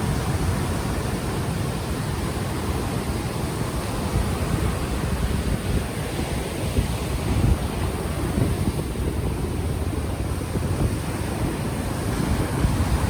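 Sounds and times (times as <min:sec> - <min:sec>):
ocean waves washing ashore: 0:00.0 - 0:13.0
wind buffeting microphone: 0:00.0 - 0:13.0.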